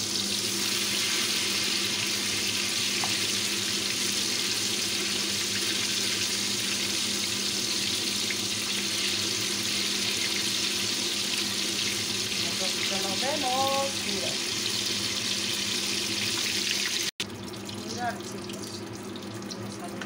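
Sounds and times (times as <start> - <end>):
bread sizzling in oil: 0.0 - 19.9.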